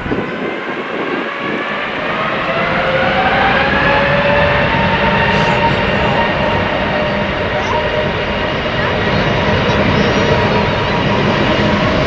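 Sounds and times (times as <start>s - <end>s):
jet engines spooling up: 0.0s - 12.0s.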